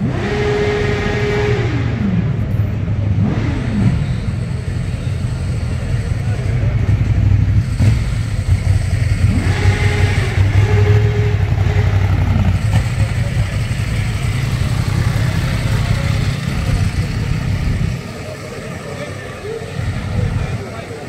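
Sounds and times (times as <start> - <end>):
motorcycle engine revving: 0.0 - 21.0
motorcycle engines idling: 0.0 - 21.0.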